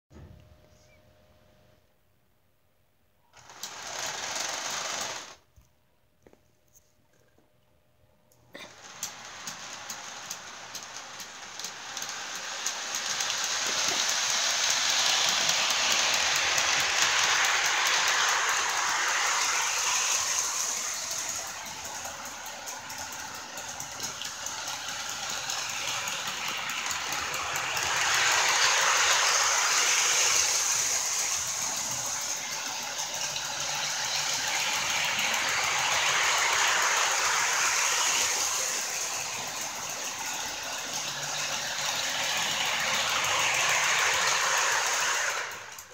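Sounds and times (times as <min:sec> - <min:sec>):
toy train whirring and clicking: 0:03.4 - 0:05.5, 0:08.5 - 0:45.9.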